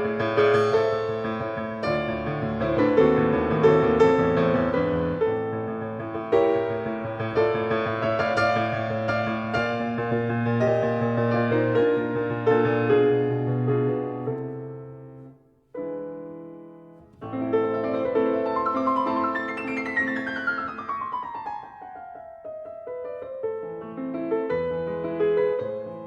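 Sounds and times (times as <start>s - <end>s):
piano chords: 0.0s - 26.0s.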